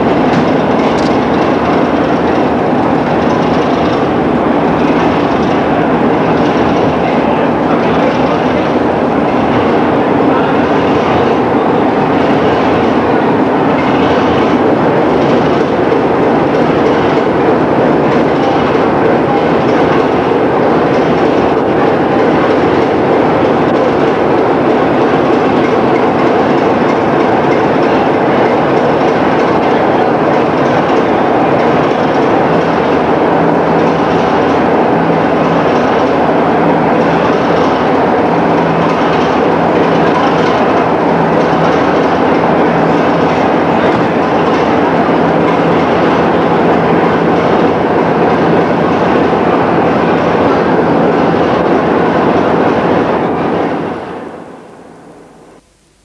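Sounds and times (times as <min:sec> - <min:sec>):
train running along track: 0:00.0 - 0:56.0.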